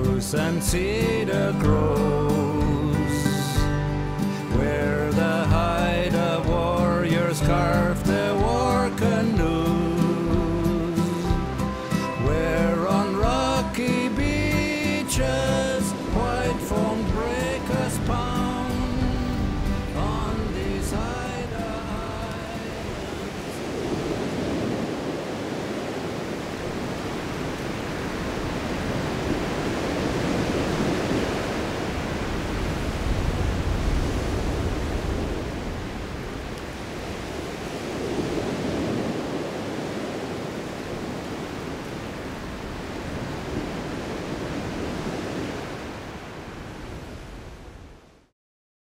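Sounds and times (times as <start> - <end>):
ocean waves washing: 0.0 - 48.1.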